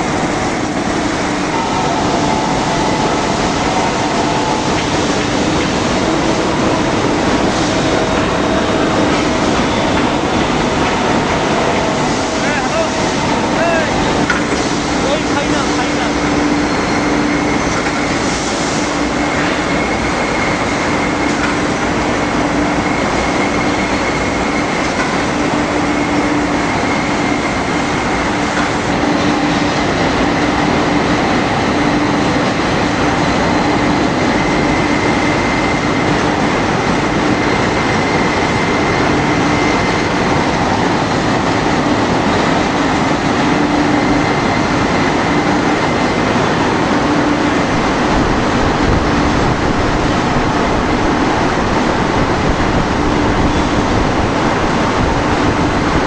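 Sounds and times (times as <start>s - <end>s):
high machinery whine: 0.0s - 56.0s
rolling mill machinery hum: 0.0s - 56.0s.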